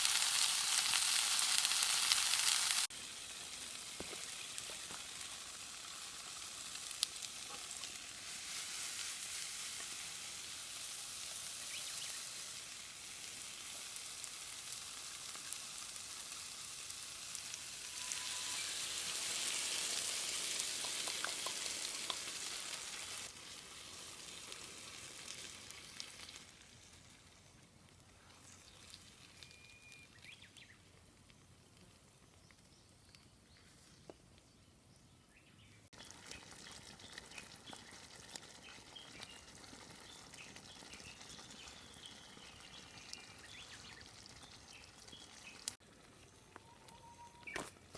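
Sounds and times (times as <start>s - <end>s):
food sizzling in a pan: 0.0s - 30.8s, 35.9s - 47.6s.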